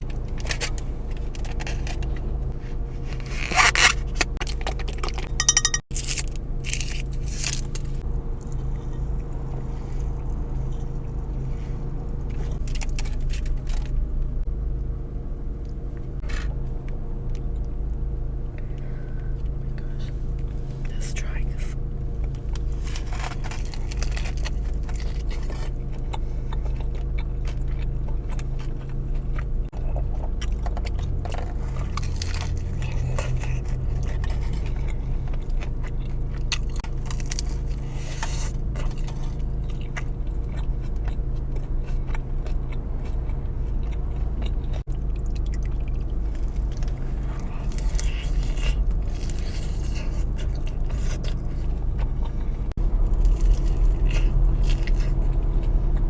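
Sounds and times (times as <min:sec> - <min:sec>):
crunchy chewing: 0:00.0 - 0:56.0
steady low hum: 0:00.0 - 0:56.0.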